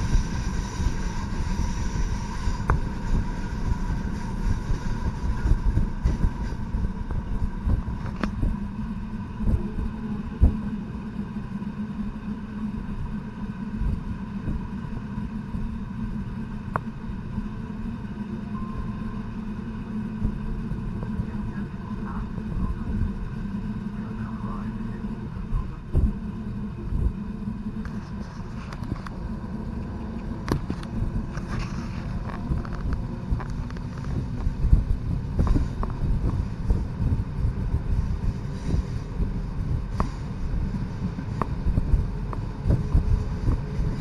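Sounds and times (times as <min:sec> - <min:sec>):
faint steady engine tones: 0:00.0 - 0:44.0
railcar rumbling on rails: 0:00.0 - 0:44.0.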